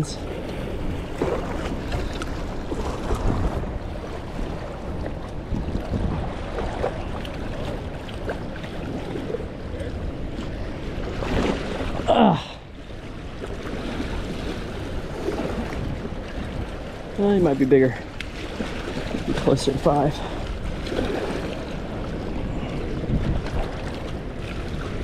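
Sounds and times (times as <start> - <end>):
rushing water: 0.0 - 25.0
wind buffeting microphone: 0.0 - 25.0.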